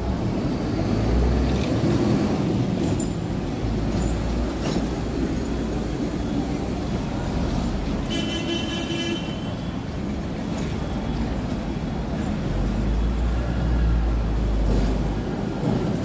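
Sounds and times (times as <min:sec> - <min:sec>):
tram approaching on tracks: 0:00.0 - 0:08.3, 0:09.4 - 0:16.0
street traffic: 0:00.0 - 0:16.0.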